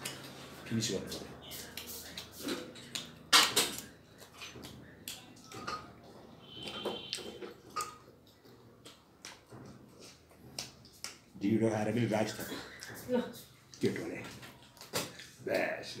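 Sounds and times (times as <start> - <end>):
soft eating noises: 0.0 - 16.0.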